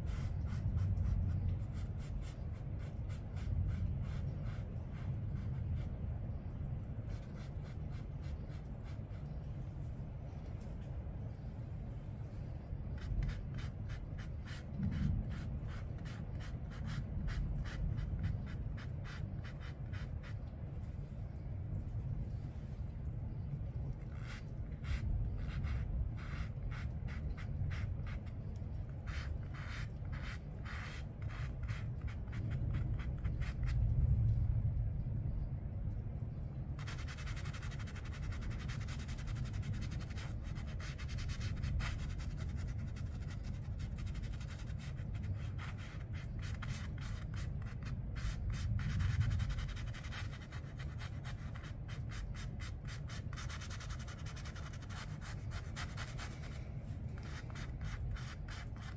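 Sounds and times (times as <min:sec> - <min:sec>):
paintbrush stroking paper: 0:00.0 - 0:05.9, 0:07.0 - 0:09.3, 0:12.3 - 0:21.1, 0:24.0 - 0:33.8, 0:36.8 - 0:58.9
low rumble: 0:00.0 - 0:51.3.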